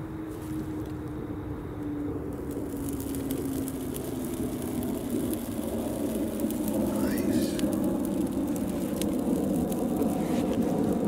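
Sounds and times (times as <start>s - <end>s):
jet aircraft droning overhead: 0.0s - 11.0s
kindling crackling in flames: 0.0s - 11.0s.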